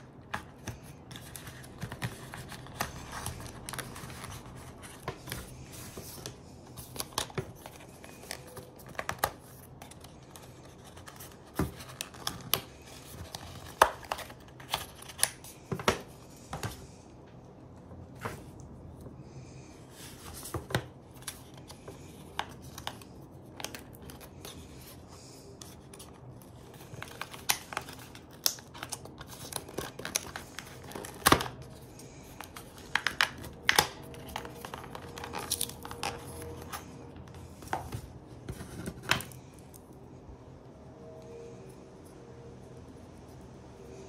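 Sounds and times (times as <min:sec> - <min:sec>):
cardboard packaging rustling: 0:00.0 - 0:16.9, 0:19.9 - 0:39.4.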